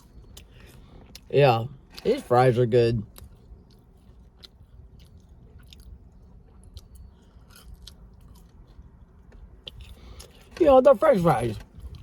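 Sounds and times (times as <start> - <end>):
person chewing: 0.0 - 2.3, 3.0 - 10.6, 11.5 - 12.0.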